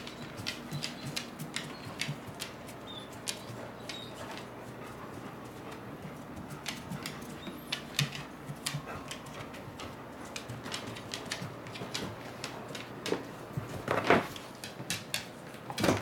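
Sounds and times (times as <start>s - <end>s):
dog claws clicking on wooden floor: 0.0s - 4.6s, 5.5s - 16.0s.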